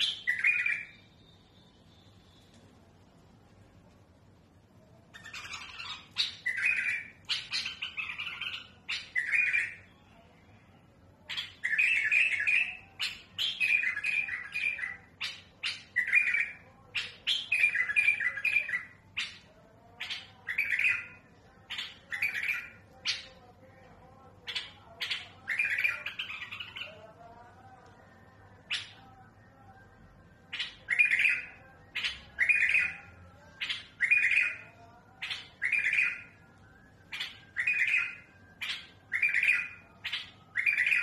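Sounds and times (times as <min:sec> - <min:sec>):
bird singing: 0:00.0 - 0:02.6, 0:05.1 - 0:10.3, 0:11.2 - 0:23.6, 0:24.4 - 0:27.7, 0:28.5 - 0:41.0.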